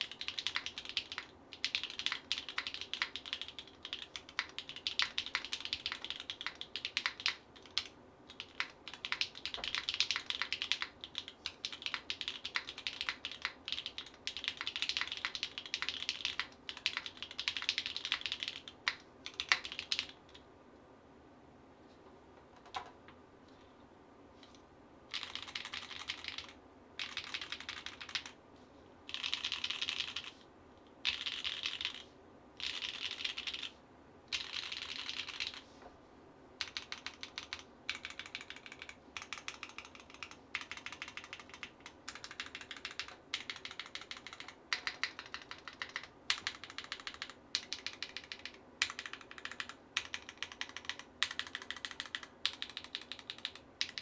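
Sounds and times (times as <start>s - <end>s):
mechanical keyboard typing: 0.0s - 20.4s, 25.1s - 28.4s, 29.1s - 30.3s, 31.0s - 32.0s, 32.6s - 33.7s, 34.3s - 35.6s, 36.6s - 54.0s.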